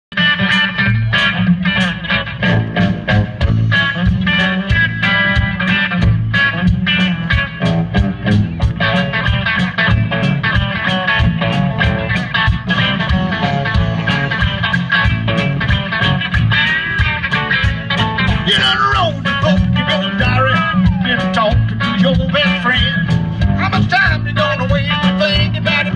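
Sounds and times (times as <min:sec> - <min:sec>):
rock band playing: 0:00.1 - 0:25.9
sliding guitar lead notes: 0:00.1 - 0:25.9.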